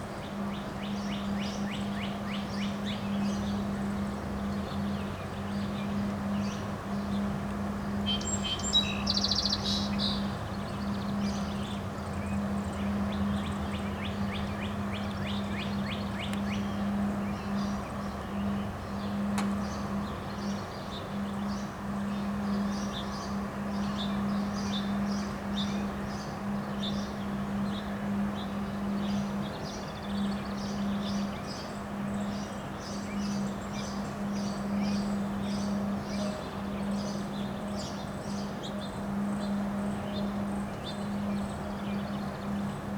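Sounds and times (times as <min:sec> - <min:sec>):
birds chirping: 0:08.0 - 0:42.9.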